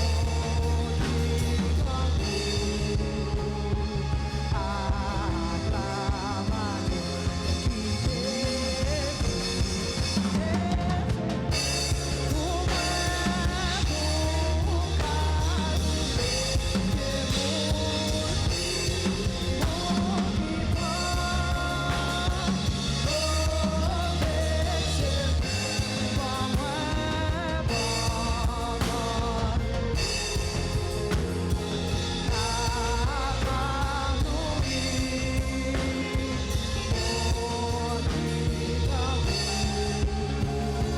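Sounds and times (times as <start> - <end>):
drum kit beat: 0.0 - 3.8, 6.1 - 40.9
live church band music: 0.0 - 40.9.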